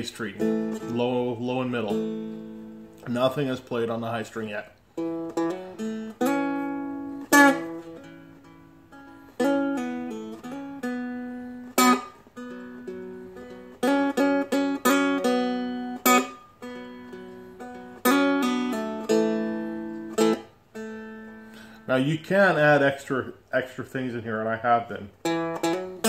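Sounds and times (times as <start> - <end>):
plucked string instrument: 0.0 - 4.1, 4.8 - 22.0, 25.2 - 26.0
strummed chords: 0.0 - 26.0.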